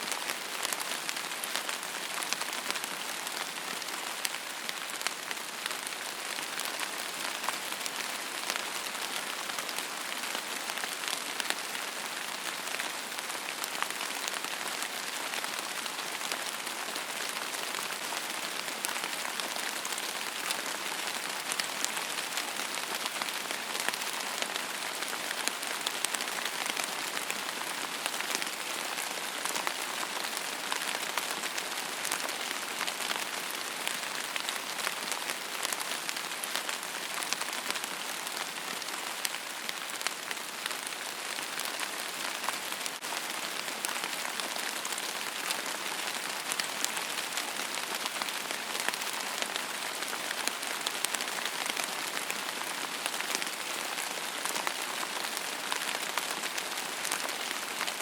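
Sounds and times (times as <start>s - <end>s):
rain falling on surface: 0.0s - 58.0s.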